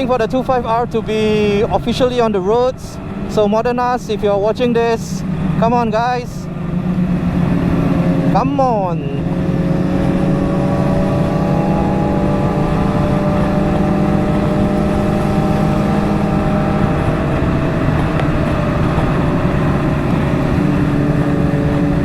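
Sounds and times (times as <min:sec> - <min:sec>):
motorcycle engine cruising: 0:00.0 - 0:22.0
wind rushing: 0:03.0 - 0:22.0.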